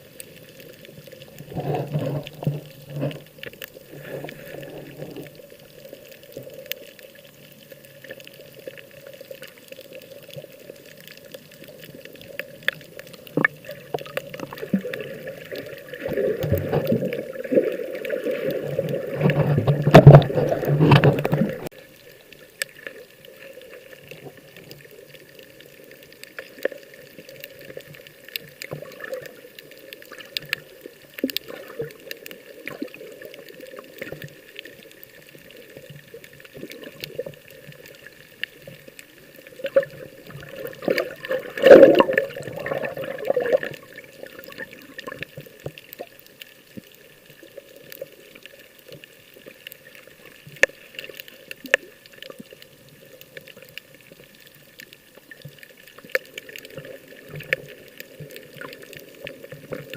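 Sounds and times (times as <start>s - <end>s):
sea water sloshing and splashing: 0.0s - 59.9s.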